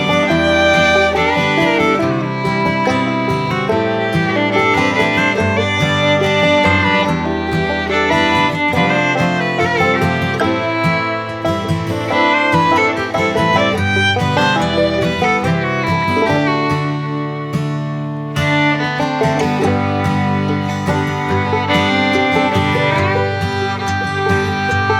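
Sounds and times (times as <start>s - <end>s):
fiddle with guitar music: 0.0s - 24.9s.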